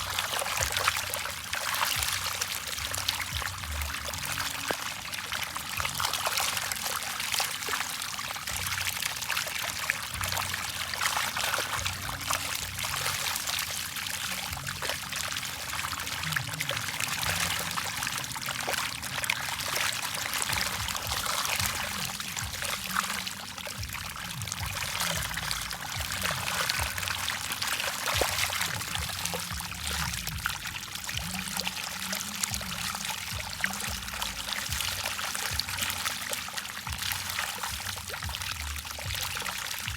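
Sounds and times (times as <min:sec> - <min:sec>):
fish splashing at water surface: 0:00.0 - 0:39.9.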